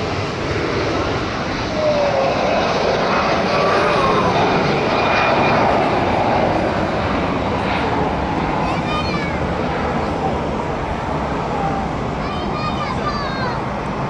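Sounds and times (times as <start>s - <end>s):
jet engines at takeoff: 0.0s - 14.0s.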